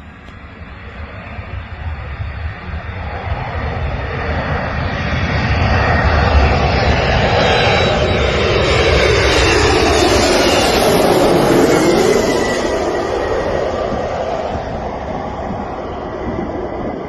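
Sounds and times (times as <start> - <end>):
airplane engine passing close: 0.0 - 17.0.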